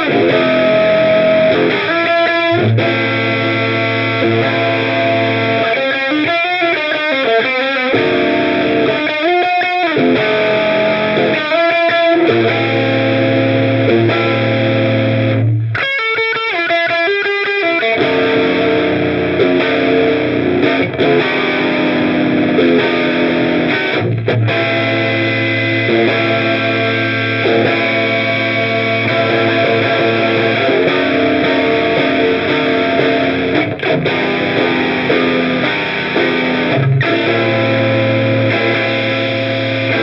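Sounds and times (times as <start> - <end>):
distorted electric guitar: 0.0 - 40.0.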